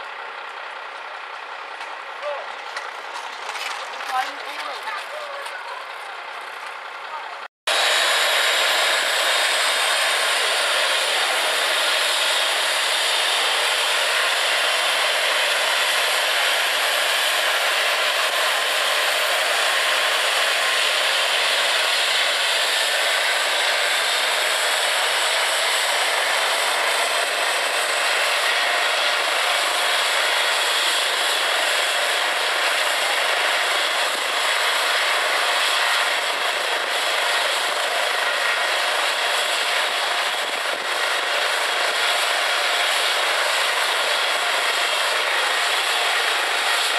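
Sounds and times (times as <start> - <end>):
helicopter turbine engines running: 0.0 - 46.9.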